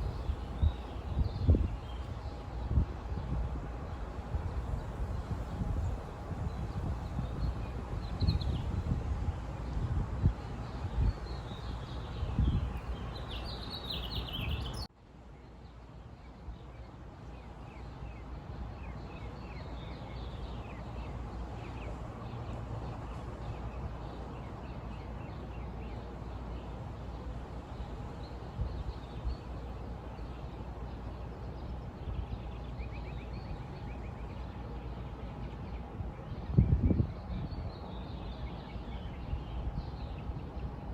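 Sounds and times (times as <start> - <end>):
small birds chirping: 0.0 - 9.0, 9.6 - 14.9, 16.5 - 40.9
low background noise: 0.0 - 40.9.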